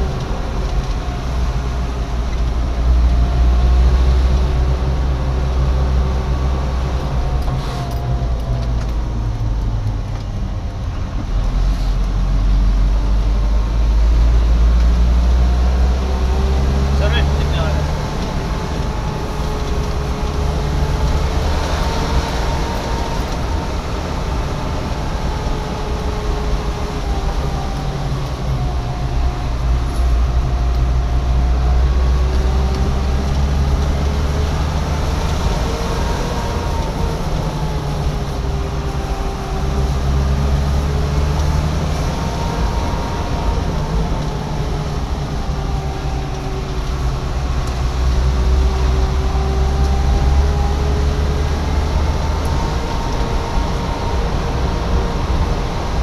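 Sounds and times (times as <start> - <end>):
road noise: 0.0 - 56.0
vehicle engine rumble and whine: 0.0 - 56.0.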